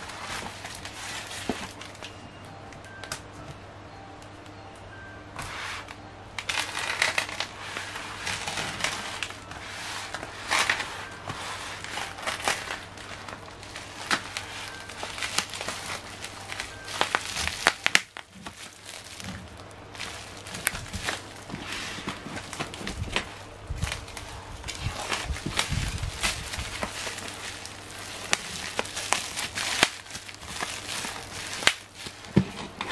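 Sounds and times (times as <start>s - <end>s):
plastic wrap crinkling: 0.0s - 2.2s, 6.4s - 32.9s.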